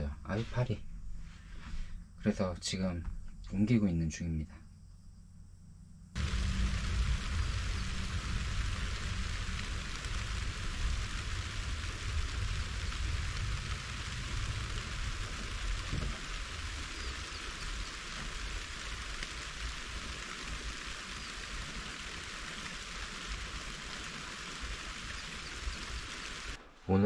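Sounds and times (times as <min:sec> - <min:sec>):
rain hiss: 0:00.0 - 0:04.9, 0:05.7 - 0:27.0
low rumble: 0:04.7 - 0:27.0.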